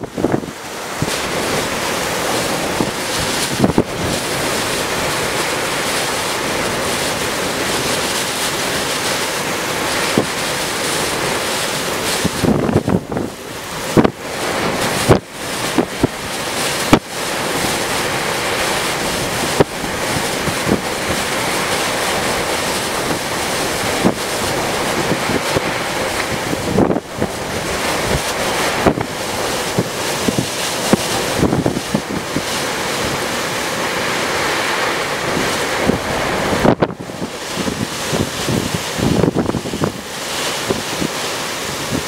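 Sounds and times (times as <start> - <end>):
rushing water and surf: 0.0 - 42.0
wind buffeting microphone: 0.0 - 42.0.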